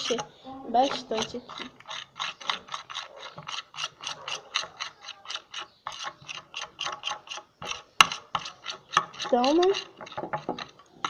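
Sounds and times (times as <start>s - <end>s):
spoon stirring sticky slime: 0.0s - 11.0s.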